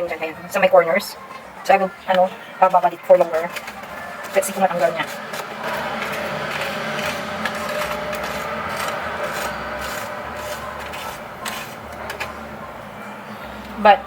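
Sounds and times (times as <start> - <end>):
steady rubbing noise: 1.8 - 13.2.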